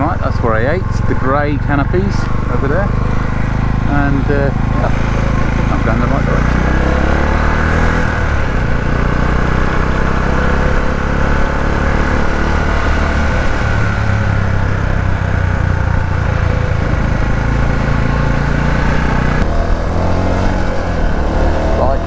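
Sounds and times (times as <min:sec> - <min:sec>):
motorcycle engine running: 0:00.0 - 0:22.0
wind rushing: 0:02.3 - 0:21.8.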